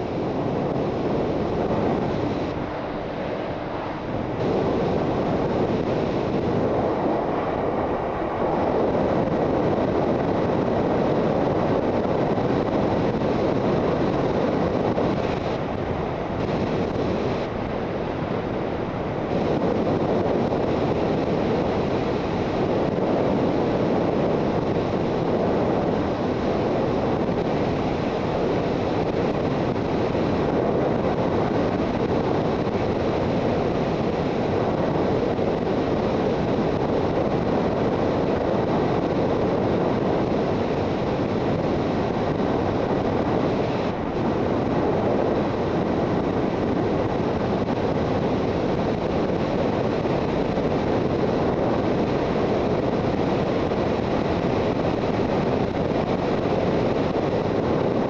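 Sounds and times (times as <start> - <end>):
wind rush on microphone: 0.0 - 58.0.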